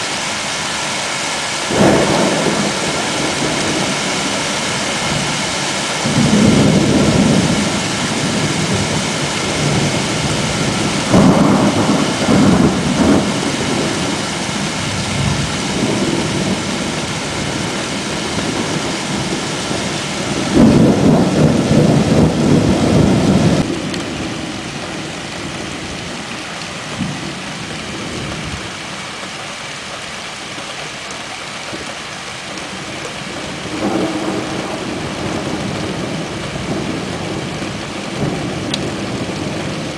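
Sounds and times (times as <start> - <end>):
rain hiss: 0.0 - 39.9
thunder rumbling: 1.7 - 28.7, 32.5 - 39.9.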